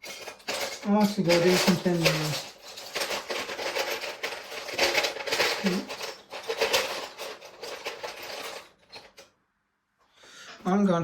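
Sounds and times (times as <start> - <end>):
plastic bricks clattering: 0.0 - 9.3.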